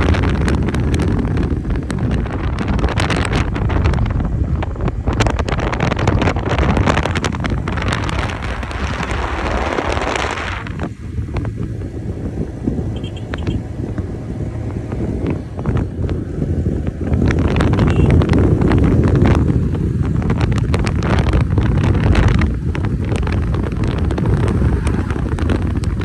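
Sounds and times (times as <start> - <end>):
low rumble of moving ride: 0.0 - 26.0
wind buffeting microphone: 0.0 - 26.0.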